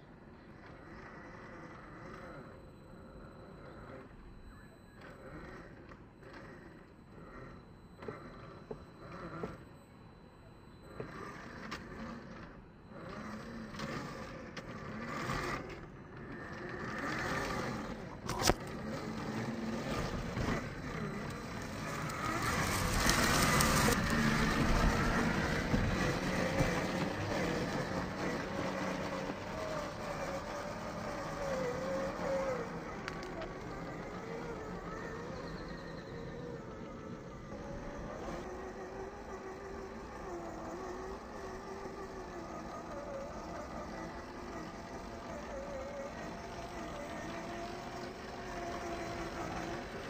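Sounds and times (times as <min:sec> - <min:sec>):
toy electric motor whining: 0:00.6 - 0:09.8, 0:10.7 - 0:50.0.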